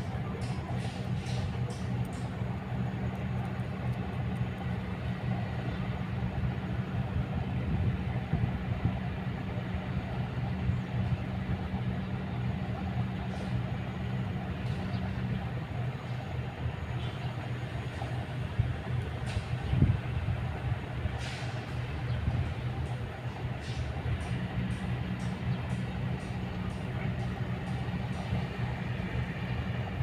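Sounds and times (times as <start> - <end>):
excavator diesel engine humming: 0.0 - 30.0.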